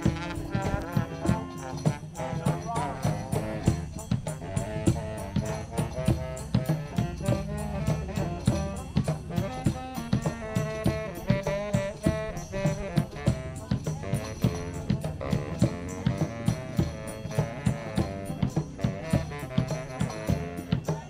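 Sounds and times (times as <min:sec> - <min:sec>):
saxophones playing upbeat tune: 0:00.0 - 0:21.0
steady drum beat: 0:00.0 - 0:21.0.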